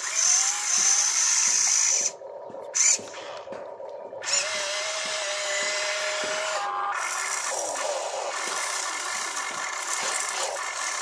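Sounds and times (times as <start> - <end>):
toy excavator motors whirring: 0.0 - 3.5, 4.2 - 11.0.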